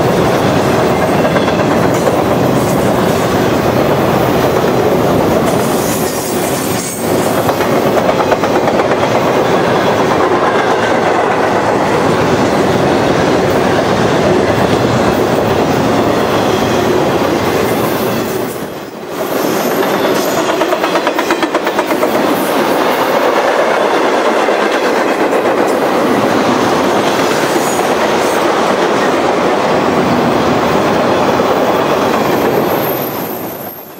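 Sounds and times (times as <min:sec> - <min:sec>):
freight train rumbling past: 0:00.0 - 0:33.9
wheels clickety-clack on rail joints: 0:00.0 - 0:33.9.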